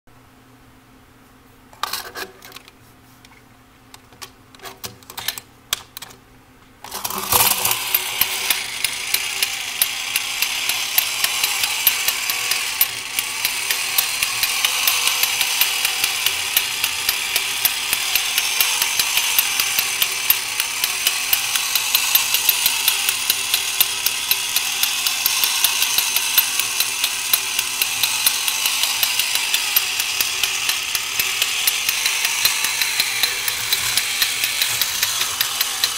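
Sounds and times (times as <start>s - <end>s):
toy robot motor whirring and clicking: 6.8s - 35.9s
clicks: 6.9s - 35.9s.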